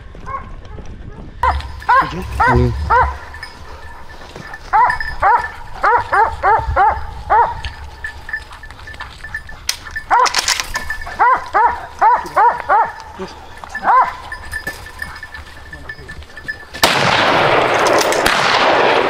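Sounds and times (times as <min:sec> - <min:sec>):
hunting dogs barking: 0:00.3 - 0:16.7.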